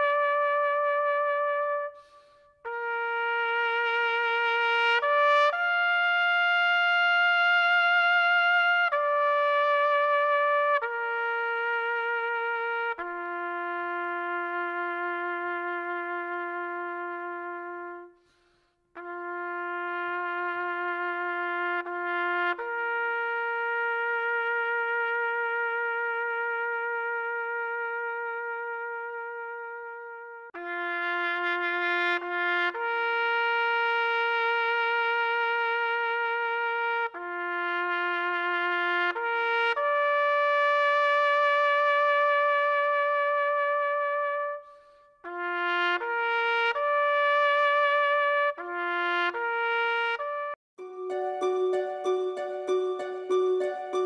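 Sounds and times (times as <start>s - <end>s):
solo trumpet slow melody: 0.0s - 54.0s.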